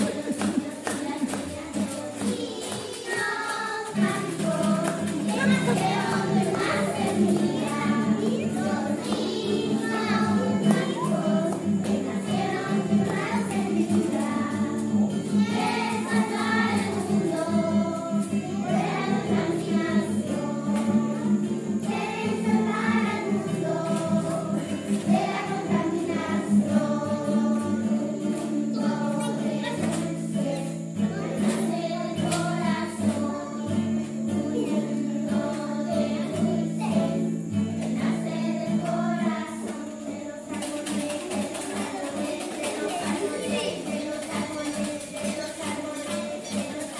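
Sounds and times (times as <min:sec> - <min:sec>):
acoustic guitar: 0:00.0 - 0:46.9
children singing: 0:00.0 - 0:46.9.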